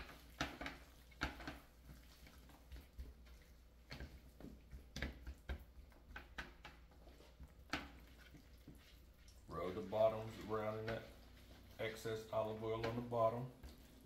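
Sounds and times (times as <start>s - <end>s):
hands squishing raw chicken: 0.0s - 14.0s.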